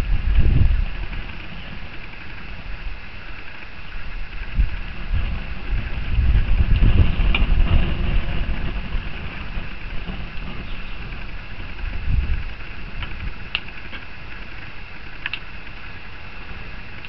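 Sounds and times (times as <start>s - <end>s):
flames hissing and crackling: 0.0s - 17.0s
low rumble: 0.0s - 17.0s.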